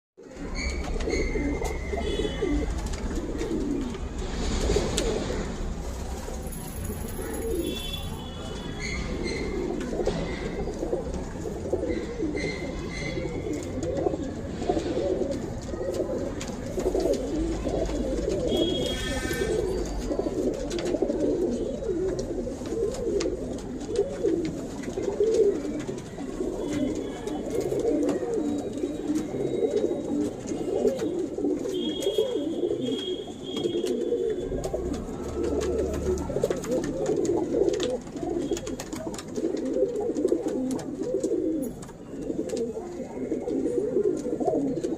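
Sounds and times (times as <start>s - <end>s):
pigeons cooing: 0.2s - 44.9s.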